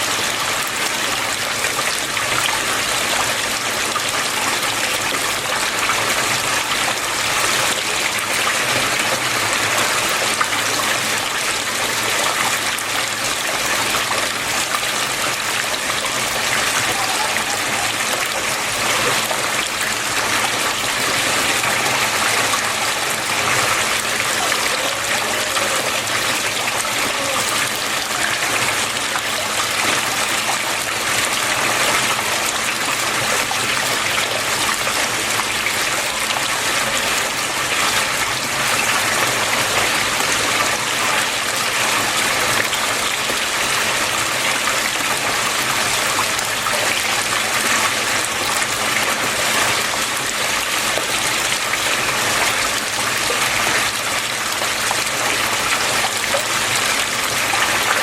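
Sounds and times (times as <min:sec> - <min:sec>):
water flowing and splashing: 0:00.0 - 0:58.0.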